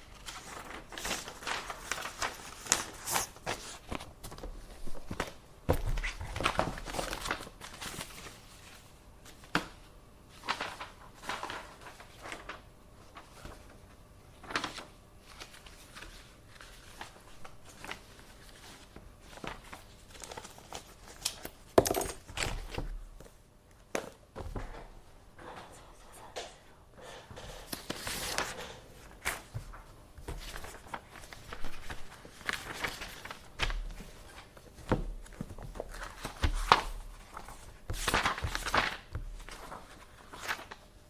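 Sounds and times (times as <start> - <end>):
paper rustling: 0.0 - 24.9, 27.0 - 41.0.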